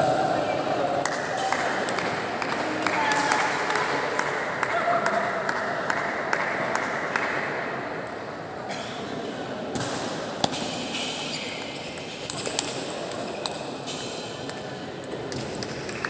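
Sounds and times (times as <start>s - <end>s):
murmur of background noise: 0.0s - 16.0s.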